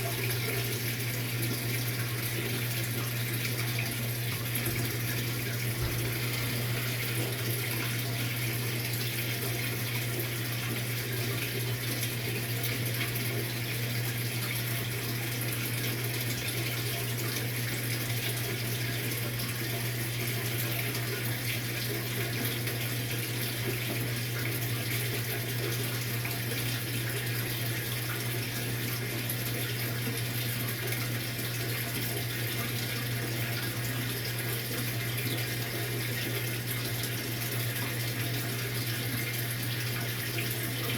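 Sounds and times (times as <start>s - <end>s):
washing machine hum: 0.0s - 40.9s
water running in washing machine: 0.0s - 40.9s.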